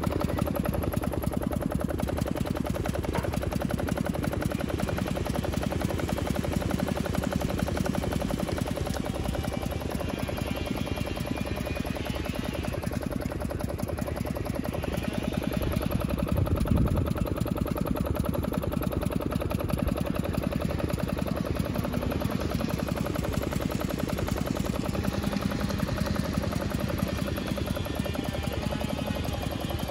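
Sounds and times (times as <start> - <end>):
stationary engine running: 0.0 - 29.9.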